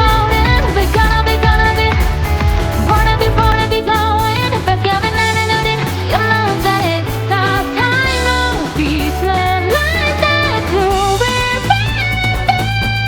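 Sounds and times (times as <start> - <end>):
pop song background music: 0.0 - 13.0.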